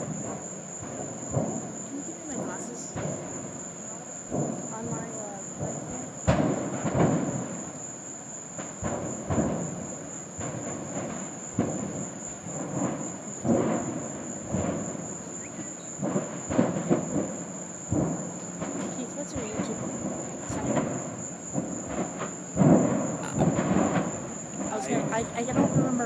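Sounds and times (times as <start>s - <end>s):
distant low rumbling booms: 0.0s - 26.0s.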